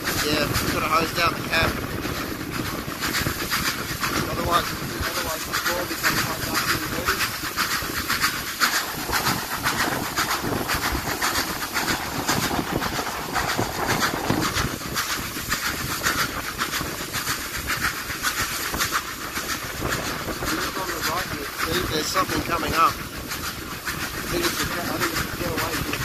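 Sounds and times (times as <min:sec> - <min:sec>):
steam hiss: 0:00.0 - 0:26.0
steam locomotive chuffing: 0:00.0 - 0:26.0.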